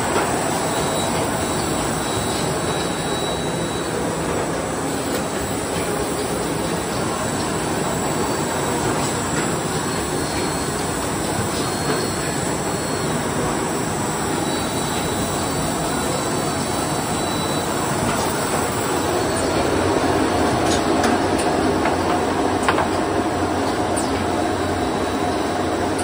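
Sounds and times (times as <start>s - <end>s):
conveyors and rollers running: 0.0s - 26.0s.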